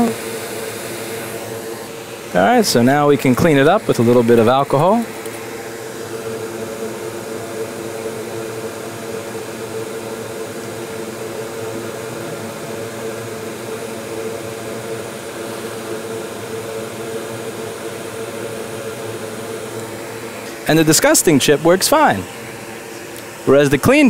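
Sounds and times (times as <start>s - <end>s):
fan whooshing with low hum: 0.0s - 24.0s.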